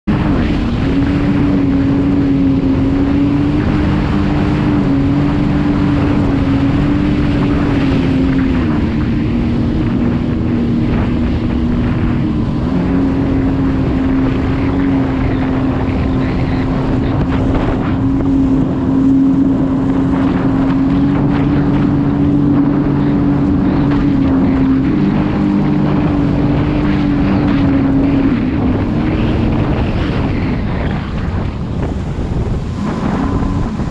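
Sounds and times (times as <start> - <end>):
watercraft engine whine: 0.0 - 33.9.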